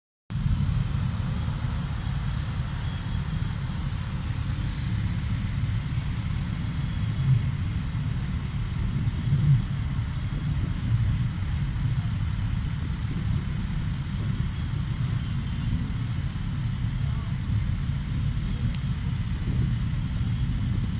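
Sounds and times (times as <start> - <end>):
motorcycle engines idling: 0.4 - 20.9.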